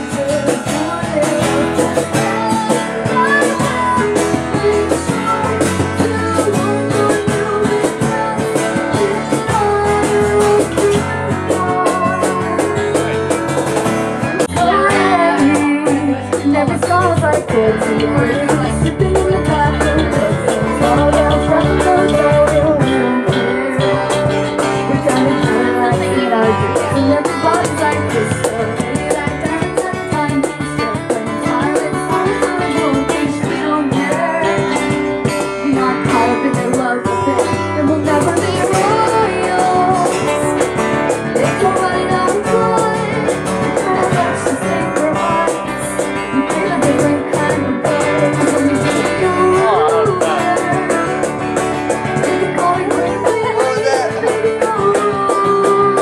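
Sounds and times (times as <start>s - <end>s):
electric bass: 0.0s - 56.0s
woman singing into microphone: 0.0s - 56.0s.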